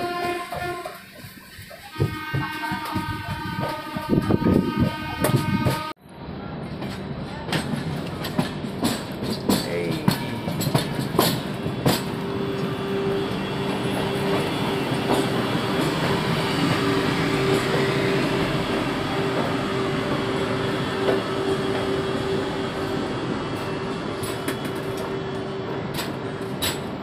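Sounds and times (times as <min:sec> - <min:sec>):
train wheels clacking over rail joints: 0:00.0 - 0:05.9, 0:06.7 - 0:12.7, 0:13.4 - 0:22.3, 0:23.6 - 0:27.0
train rumble: 0:00.0 - 0:27.0.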